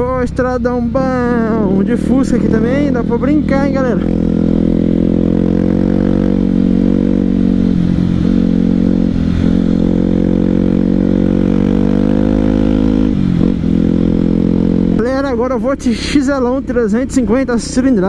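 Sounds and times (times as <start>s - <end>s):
motorcycle engine riding: 0.0s - 18.0s.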